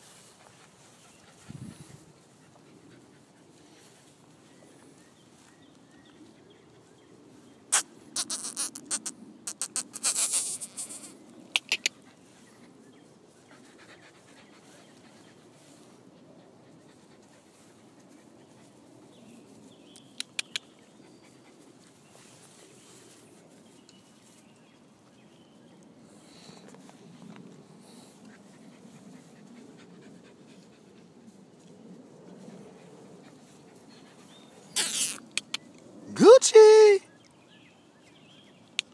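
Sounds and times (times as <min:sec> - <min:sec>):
puppies panting: 0:00.0 - 0:07.2, 0:08.4 - 0:23.2, 0:26.2 - 0:36.0.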